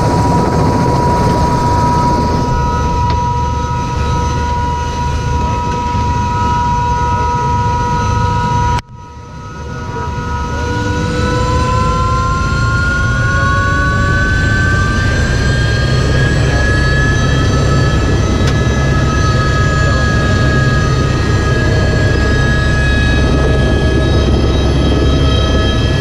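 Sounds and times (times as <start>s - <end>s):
helicopter turbine whine: 0.0s - 26.0s
low rotor throb: 0.0s - 26.0s.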